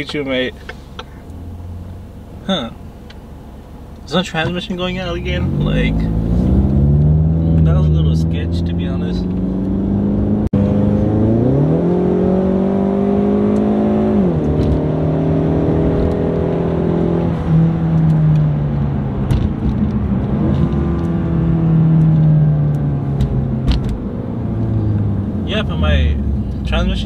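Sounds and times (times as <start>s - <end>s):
car engine accelerating: 4.0s - 27.0s.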